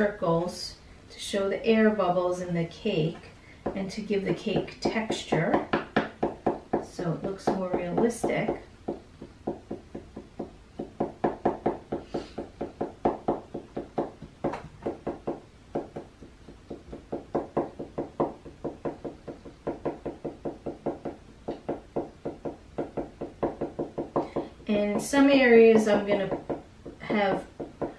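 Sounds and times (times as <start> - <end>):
marker tapping on paper: 3.6 - 27.9.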